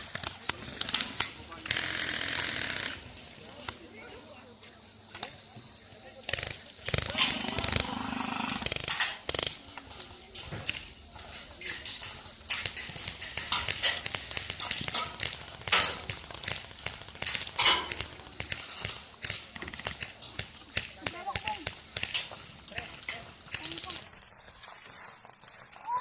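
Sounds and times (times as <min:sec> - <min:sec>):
hiss: 0:00.0 - 0:24.1
sharp clicks and cracks: 0:00.0 - 0:24.2.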